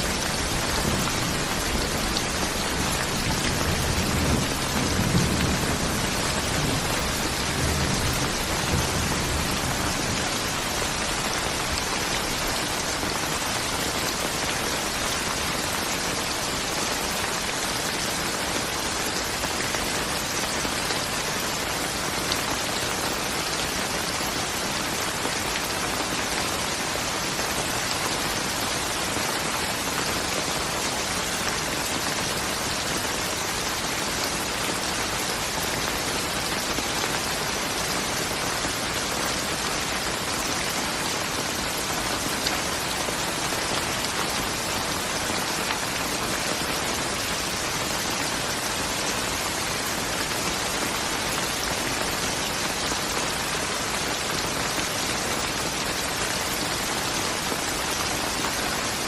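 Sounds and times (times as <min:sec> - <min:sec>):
steady rain pouring: 0:00.0 - 0:59.0.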